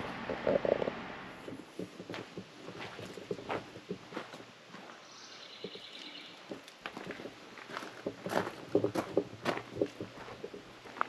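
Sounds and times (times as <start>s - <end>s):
footsteps on gravel: 1.5s - 11.0s.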